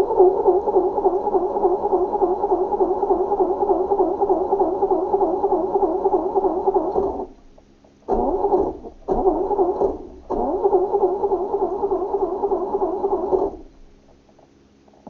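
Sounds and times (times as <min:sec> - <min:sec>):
starter motor cranking engine: 0:00.0 - 0:07.4, 0:08.1 - 0:14.0.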